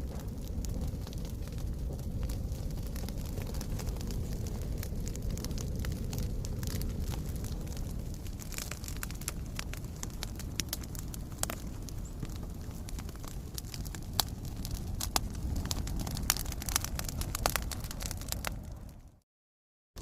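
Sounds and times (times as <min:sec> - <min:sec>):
logs burning in fireplace: 0:00.0 - 0:19.2.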